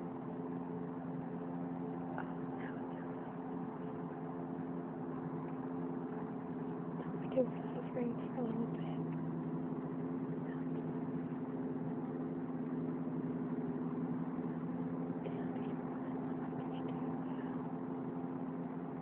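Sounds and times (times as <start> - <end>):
steady low drone from sky: 0.0 - 19.0.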